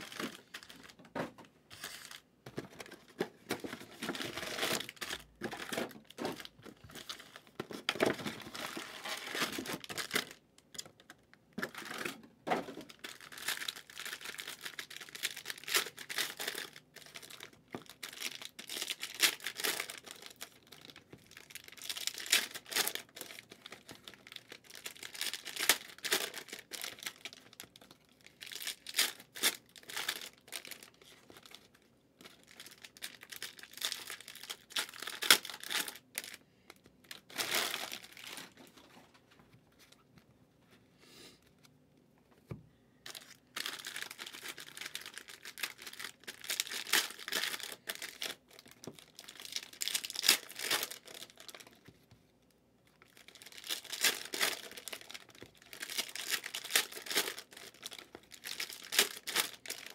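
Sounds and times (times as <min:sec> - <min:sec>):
cellophane wrappers crinkling: 0:00.0 - 0:01.1, 0:01.7 - 0:12.2, 0:12.8 - 0:39.1, 0:43.0 - 0:52.0, 0:52.9 - 0:59.9.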